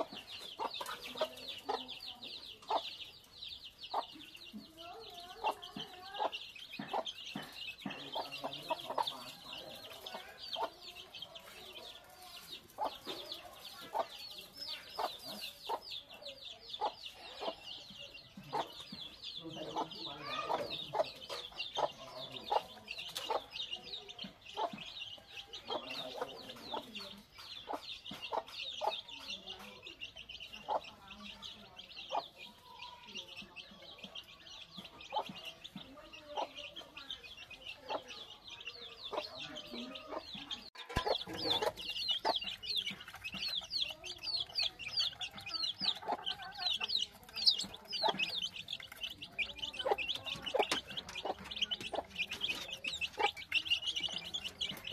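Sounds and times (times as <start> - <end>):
chicks peeping: 0.0 - 54.9
hens clucking: 0.0 - 54.9.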